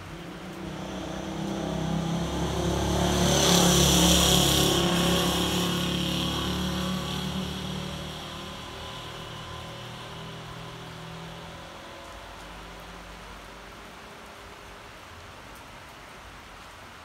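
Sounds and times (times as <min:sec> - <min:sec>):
vehicle passing on wet road: 0:00.0 - 0:17.0.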